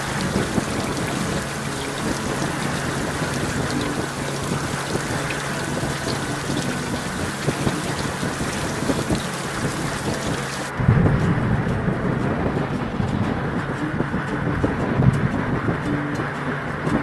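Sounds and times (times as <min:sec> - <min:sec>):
heavy rain hitting microphone: 0:00.0 - 0:17.0
motorcycle engine drone: 0:00.0 - 0:17.0
wind and road noise: 0:00.0 - 0:17.0.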